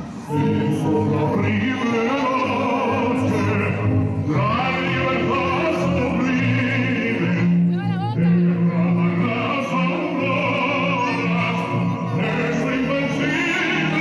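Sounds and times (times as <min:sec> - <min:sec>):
operatic singing with vibrato: 0:00.0 - 0:14.0.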